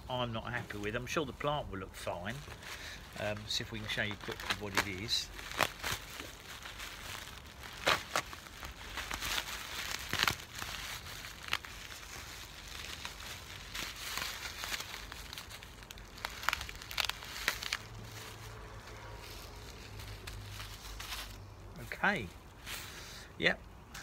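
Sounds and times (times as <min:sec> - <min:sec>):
plastic and paper wrapping crinkling: 0:00.0 - 0:24.0.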